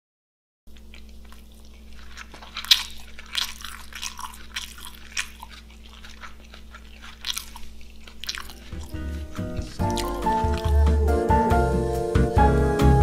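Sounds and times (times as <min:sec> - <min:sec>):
faint low hum: 0:00.7 - 0:11.8
crunchy chewing: 0:00.7 - 0:12.0.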